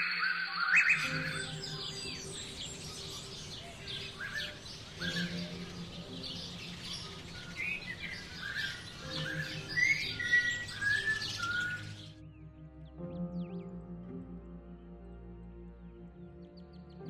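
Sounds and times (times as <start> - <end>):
background music: 0.0 - 17.0
many birds chirping: 0.0 - 17.0.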